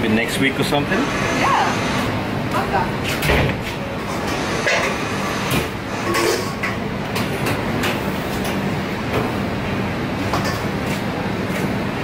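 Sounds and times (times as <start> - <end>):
kitchen ventilation drone: 0.0 - 12.0.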